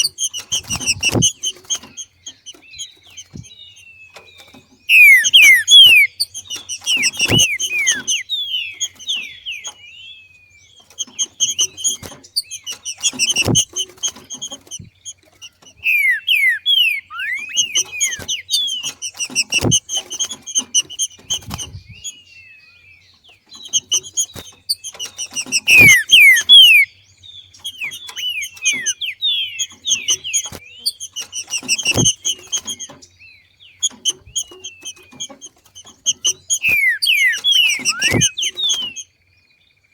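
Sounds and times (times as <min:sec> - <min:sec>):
bird singing descending whistles: 0:00.0 - 0:22.8, 0:23.6 - 0:33.0, 0:33.8 - 0:39.1.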